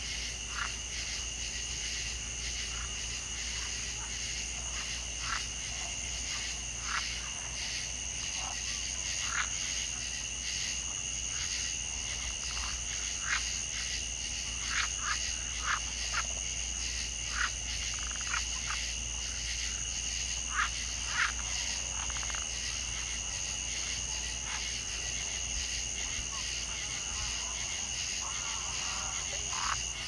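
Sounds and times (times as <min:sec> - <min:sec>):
frogs calling: 0:00.0 - 0:30.0
insects droning: 0:00.0 - 0:30.0.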